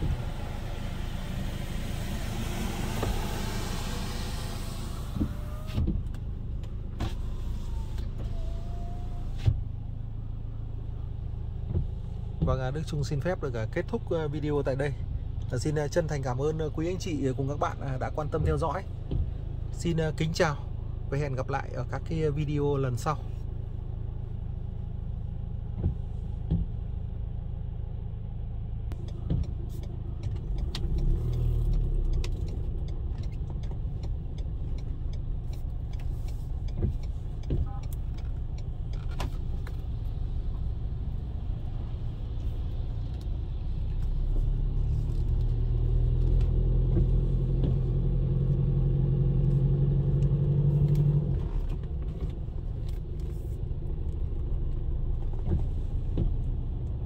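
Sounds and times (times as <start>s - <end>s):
truck engine from inside cabin: 0.0s - 57.0s.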